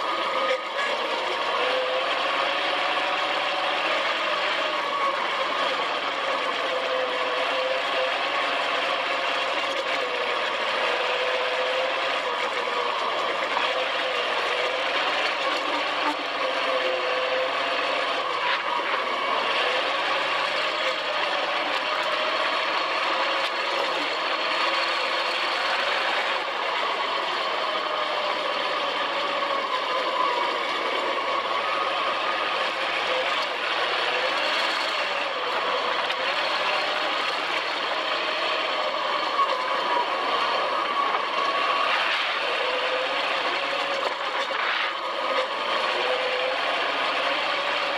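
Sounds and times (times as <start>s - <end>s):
dune buggy engine running: 0.0s - 47.9s.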